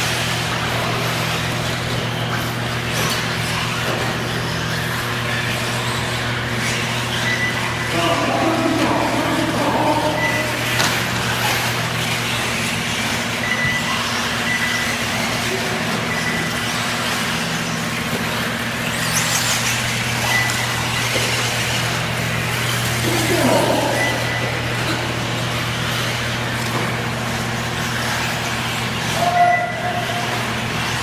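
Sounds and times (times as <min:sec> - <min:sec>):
constant low hum: 0:00.0 - 0:31.0
rc car motor whine: 0:00.0 - 0:31.0.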